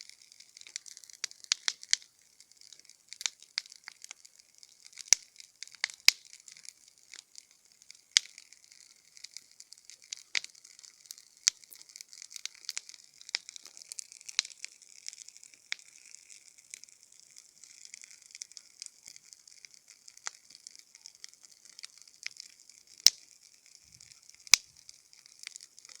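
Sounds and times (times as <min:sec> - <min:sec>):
steady fire hiss: 0:00.0 - 0:26.0
wood crackling with sharp pops: 0:00.0 - 0:26.0.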